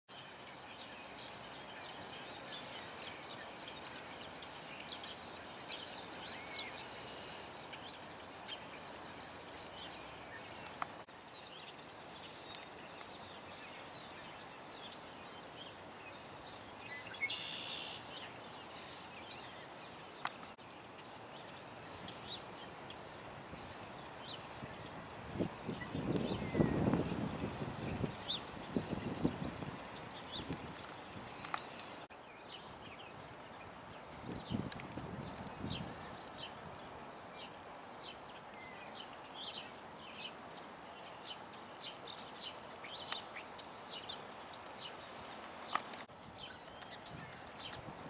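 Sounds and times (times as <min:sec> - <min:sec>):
small birds chirping: 0:00.1 - 0:48.0.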